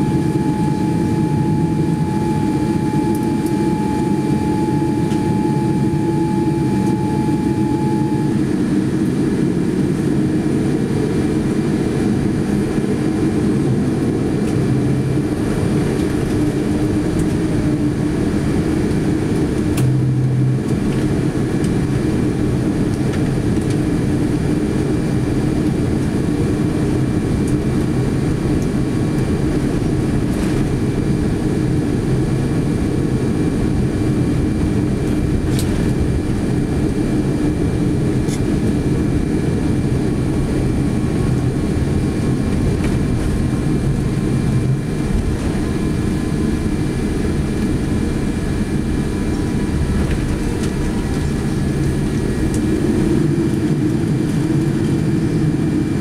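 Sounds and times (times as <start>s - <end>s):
thin steady whine: 0.0s - 9.9s, 11.1s - 27.5s, 28.3s - 56.0s
aircraft cabin drone: 0.0s - 56.0s.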